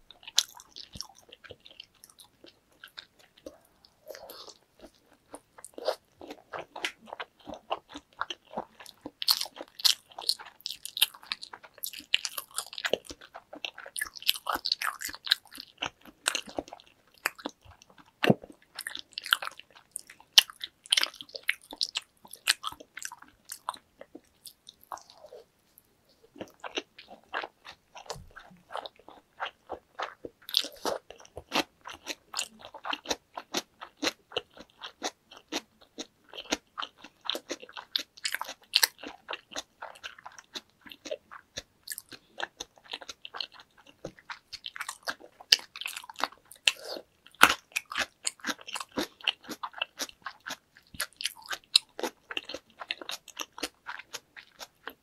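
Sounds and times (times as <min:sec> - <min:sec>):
chewing with mouth clicks: 0:00.1 - 0:55.0.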